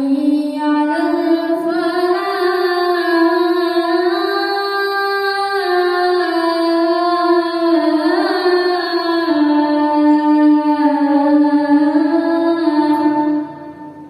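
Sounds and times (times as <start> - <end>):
child chanting call to prayer: 0.0 - 14.0.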